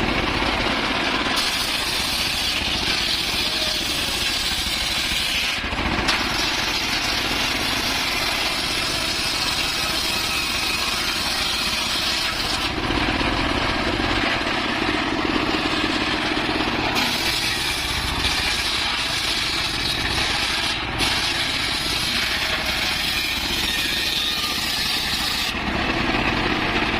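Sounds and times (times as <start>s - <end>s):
circular saw cutting wood: 0.0s - 26.9s.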